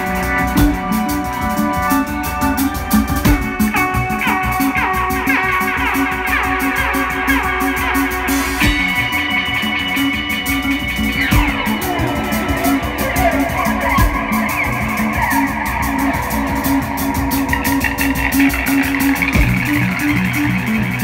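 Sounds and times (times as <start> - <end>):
electric guitar sliding note: 0.0 - 21.0
rock band playing: 0.0 - 21.0.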